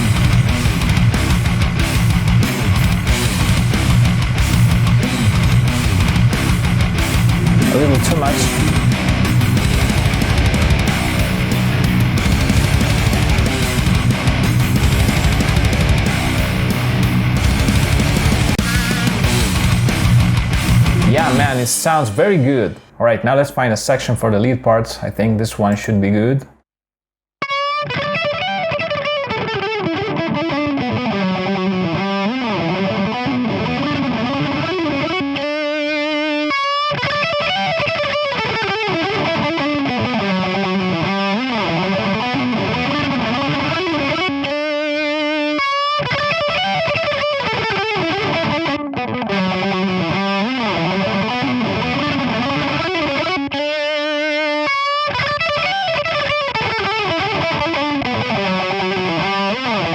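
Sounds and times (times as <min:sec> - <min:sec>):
distorted electric lead guitar: 0:00.0 - 0:24.2, 0:27.4 - 0:59.9.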